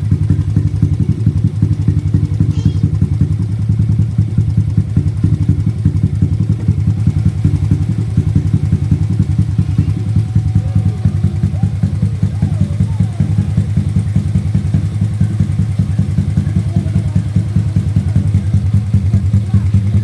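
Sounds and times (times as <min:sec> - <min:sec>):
motorcycle idling loudly: 0:00.0 - 0:20.0.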